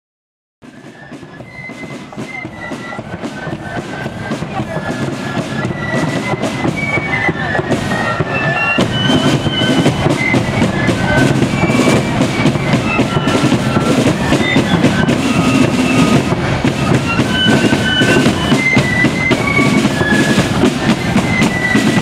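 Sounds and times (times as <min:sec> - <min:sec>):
flute melody: 0:00.6 - 0:22.0
side drums beating: 0:00.6 - 0:22.0.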